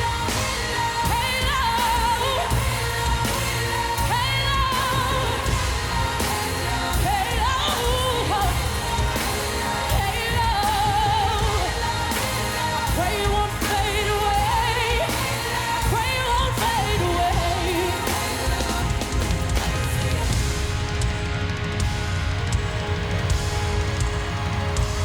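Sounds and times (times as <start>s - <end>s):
pop band playing: 0.0s - 25.0s.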